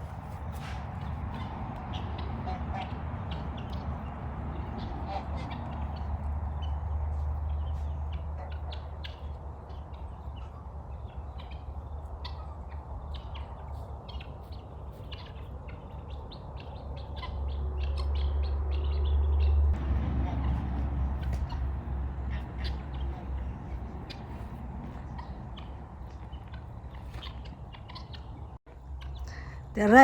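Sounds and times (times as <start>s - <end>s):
steady low rumble: 0.0s - 30.0s
birds chirping: 1.0s - 30.0s.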